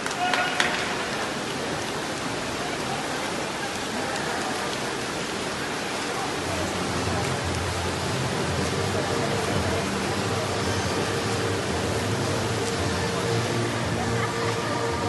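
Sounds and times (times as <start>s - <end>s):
swimmers splashing: 0.0s - 15.0s.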